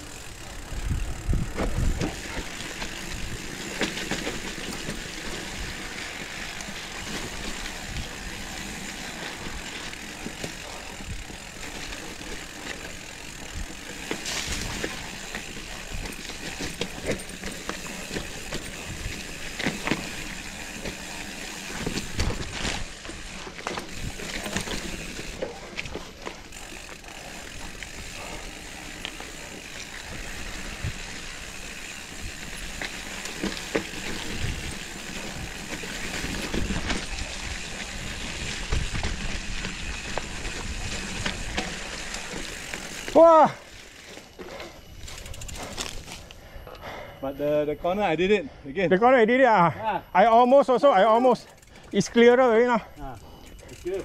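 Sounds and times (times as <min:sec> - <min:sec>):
bike tyres on leaf litter: 0:00.0 - 0:46.4, 0:50.3 - 0:54.0
bike rattling and clicking: 0:00.0 - 0:47.1, 0:50.1 - 0:54.0.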